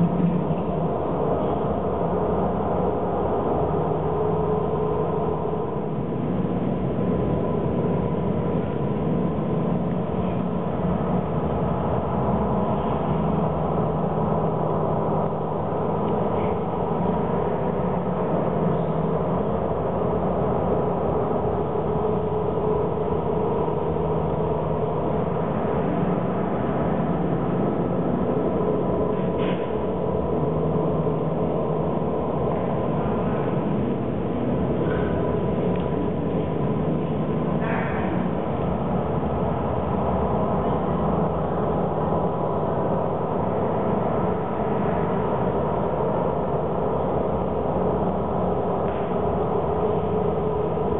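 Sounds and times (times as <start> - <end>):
continuous rumble: 0.0 - 50.9
low drone with held tones: 0.0 - 50.9.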